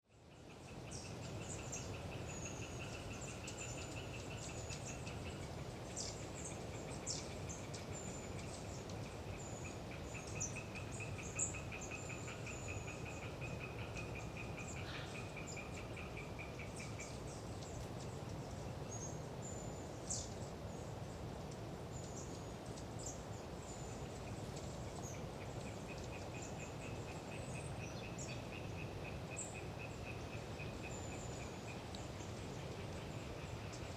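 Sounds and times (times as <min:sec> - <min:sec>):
wind in trees: 0:00.0 - 0:33.9
frogs rattling calls: 0:00.3 - 0:33.9.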